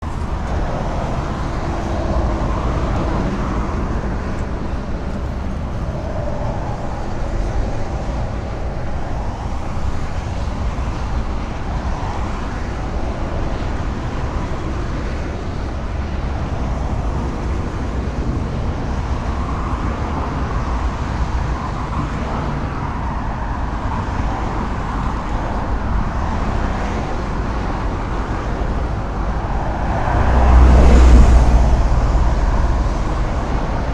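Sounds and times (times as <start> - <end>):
highway traffic: 0.0 - 33.9.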